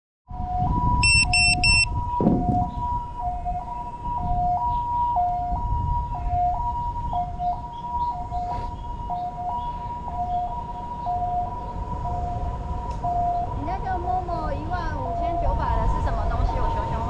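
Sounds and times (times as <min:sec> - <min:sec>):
two-tone electronic alarm: 0:00.3 - 0:13.9, 0:14.6 - 0:16.8
low rumble of wind: 0:00.3 - 0:17.0.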